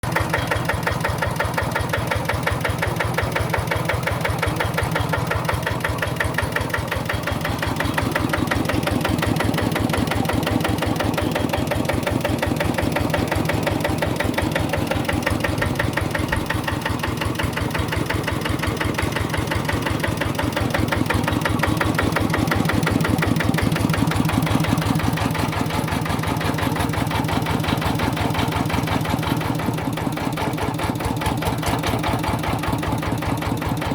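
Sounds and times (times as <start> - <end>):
diesel engine chugging: 0.0 - 33.9.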